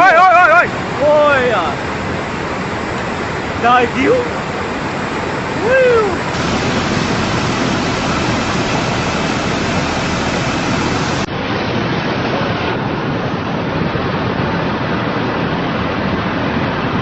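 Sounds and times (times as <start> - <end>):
rush of floodwater: 0.0 - 17.0.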